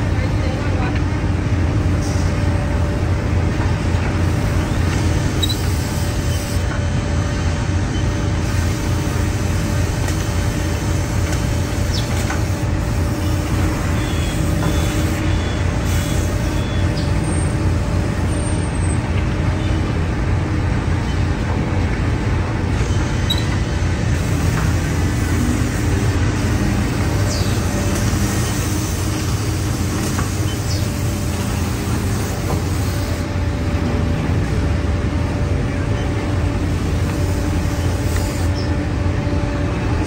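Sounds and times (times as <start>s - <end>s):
drilling machine hum and rumble: 0.0s - 40.0s.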